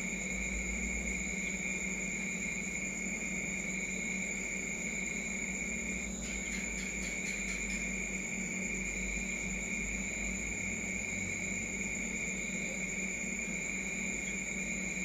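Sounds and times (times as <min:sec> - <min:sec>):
high-pitched insect trilling: 0:00.0 - 0:15.0.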